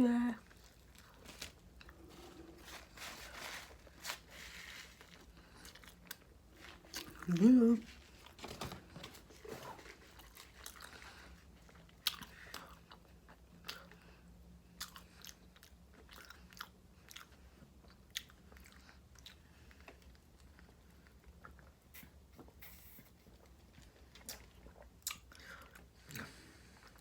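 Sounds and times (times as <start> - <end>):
person chewing food: 0.4 - 8.4, 9.1 - 21.8, 23.4 - 27.0.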